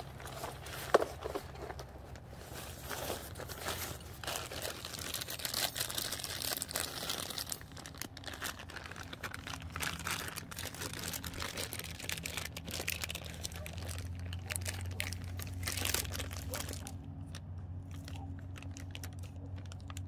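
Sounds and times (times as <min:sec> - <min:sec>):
thin fabric rustling and crinkling: 0:00.0 - 0:17.0
plastic bag crinkling: 0:00.0 - 0:20.0.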